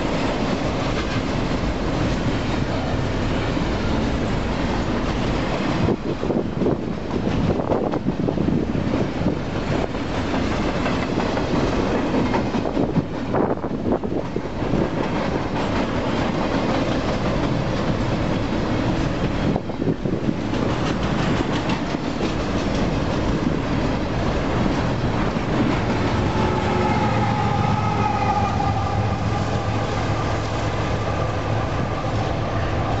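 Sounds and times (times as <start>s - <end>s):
freight train wheels clicking: 0.0s - 33.0s.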